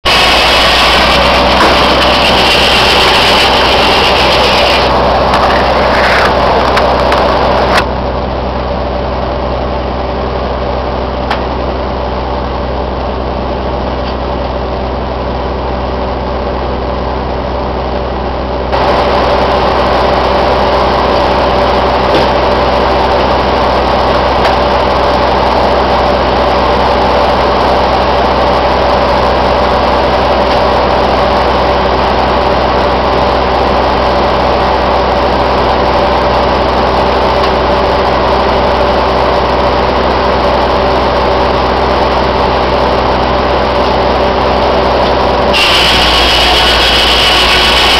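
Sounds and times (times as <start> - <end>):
sawmill engine droning: 0.0 - 47.9.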